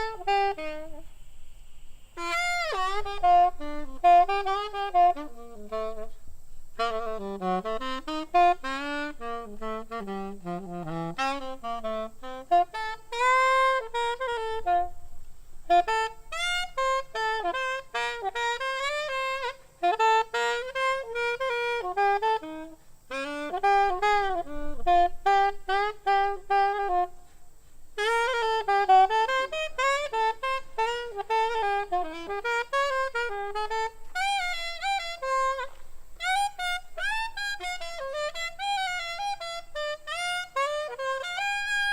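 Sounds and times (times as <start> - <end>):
saxophone playing jazz melody: 0.0 - 41.9.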